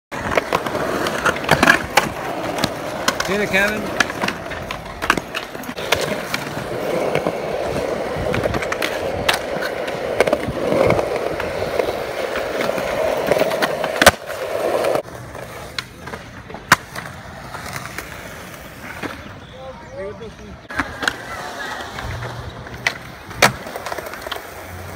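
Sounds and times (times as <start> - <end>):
skateboard clacking on ground: 0.1 - 19.3, 20.7 - 24.9
skateboard wheels rolling on concrete: 0.1 - 24.9.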